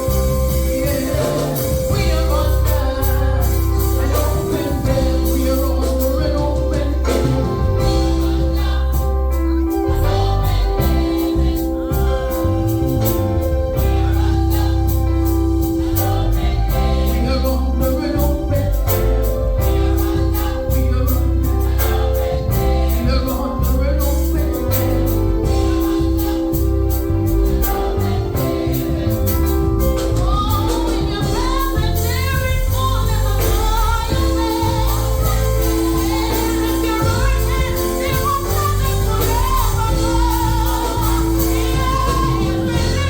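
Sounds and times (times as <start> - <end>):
gospel song with choir: 0.0 - 43.0.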